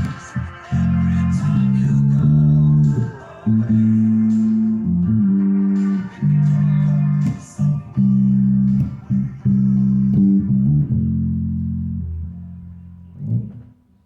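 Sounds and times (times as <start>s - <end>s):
guitar playing low notes and chords: 0.0s - 14.0s.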